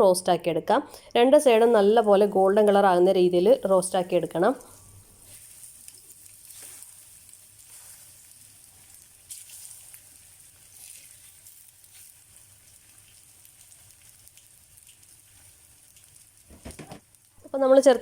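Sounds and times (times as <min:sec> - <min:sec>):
banana slices sizzling in a pan: 0:01.6 - 0:18.0.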